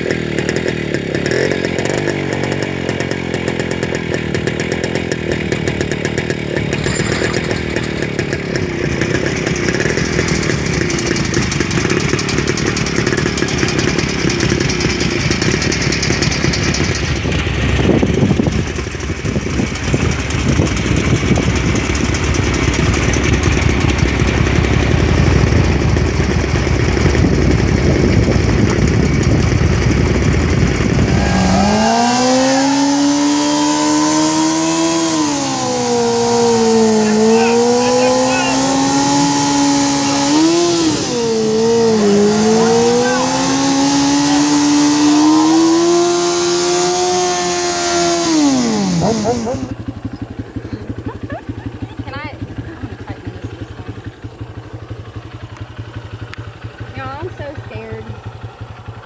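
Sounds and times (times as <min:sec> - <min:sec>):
engine revving up: 0:00.0 - 0:50.2
small motorcycle engine running: 0:00.0 - 0:59.0.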